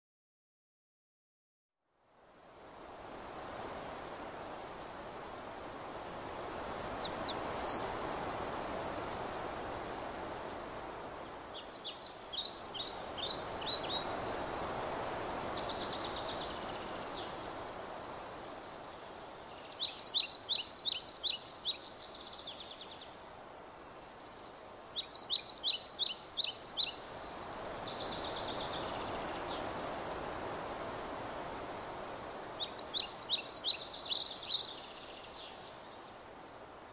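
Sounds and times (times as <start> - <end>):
outdoor background hiss: 1.8 - 36.9.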